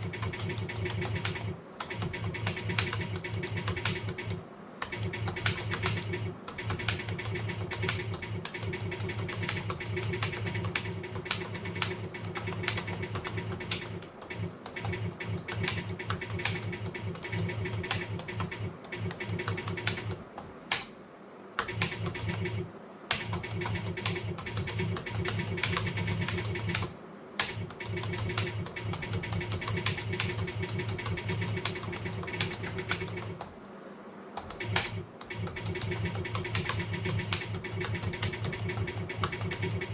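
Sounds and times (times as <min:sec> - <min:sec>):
fast typing on keyboard: 0:00.0 - 0:20.8, 0:21.6 - 0:33.5, 0:34.4 - 0:39.9
steady low hum: 0:00.0 - 0:39.9.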